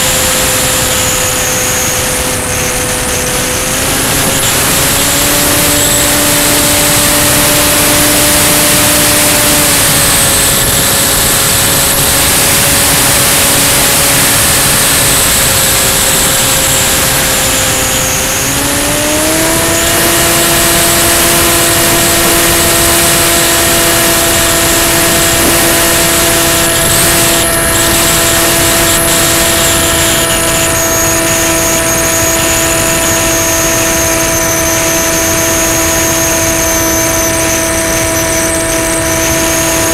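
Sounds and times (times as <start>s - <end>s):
electric motor and propeller whine: 0.0s - 39.9s
wind rush on microphone: 0.0s - 39.9s.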